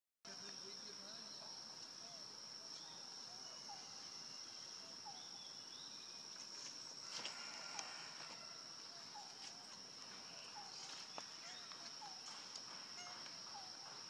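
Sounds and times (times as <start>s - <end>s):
insects droning: 0.3s - 14.0s.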